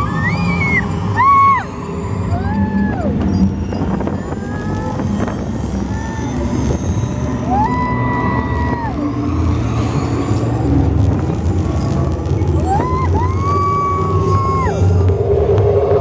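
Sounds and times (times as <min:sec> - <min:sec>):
ride vehicle rumbling: 0:00.0 - 0:16.0.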